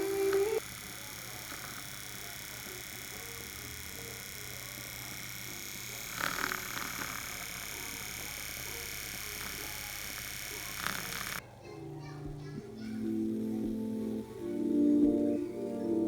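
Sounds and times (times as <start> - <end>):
chorus of animal calls: 0.0 - 16.0.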